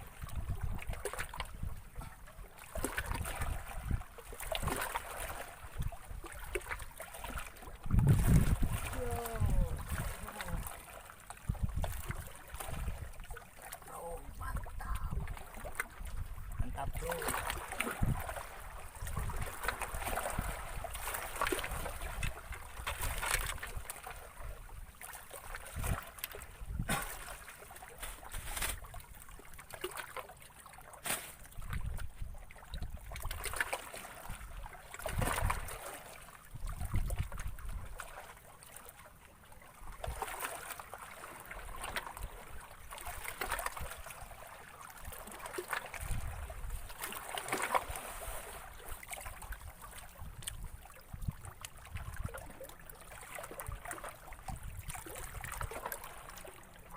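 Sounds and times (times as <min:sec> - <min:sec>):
water lapping and trickling: 0:00.0 - 0:56.9.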